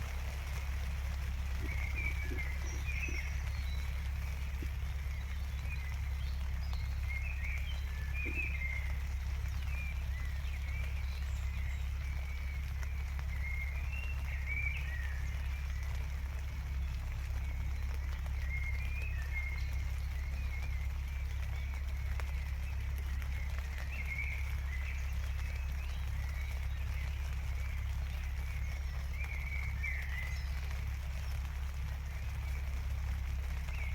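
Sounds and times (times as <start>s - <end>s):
faint rain patter: 0.0s - 33.9s
low rumble: 0.0s - 33.9s
small birds chirping: 0.0s - 33.9s.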